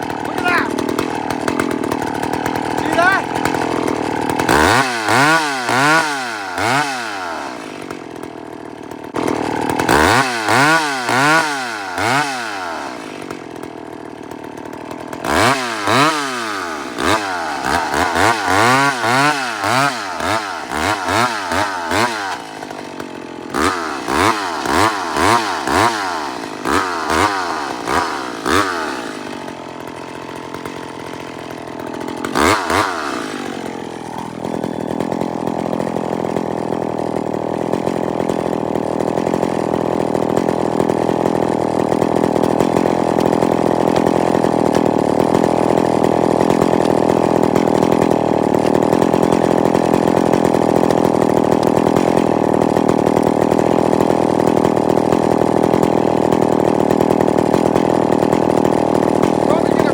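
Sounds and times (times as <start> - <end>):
chainsaw running: 0.0 - 59.9.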